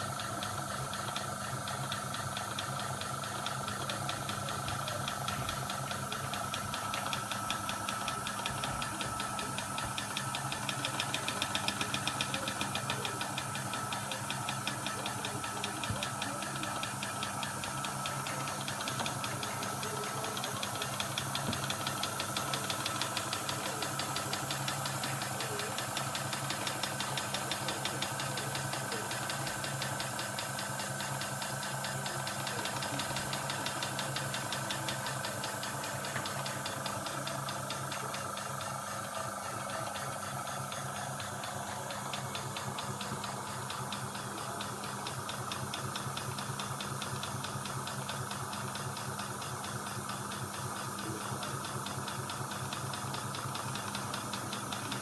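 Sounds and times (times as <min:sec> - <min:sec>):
model steam engine exhaust beating: 0:00.0 - 0:55.0.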